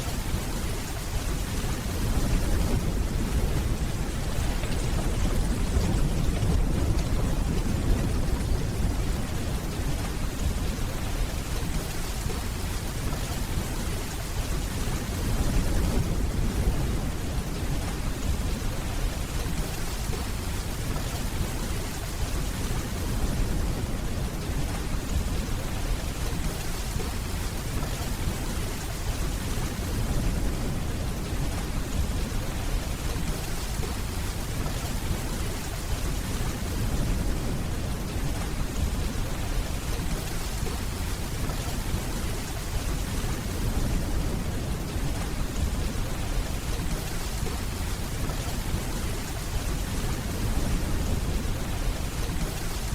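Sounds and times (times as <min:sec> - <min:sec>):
steady rainfall: 0:00.0 - 0:52.9.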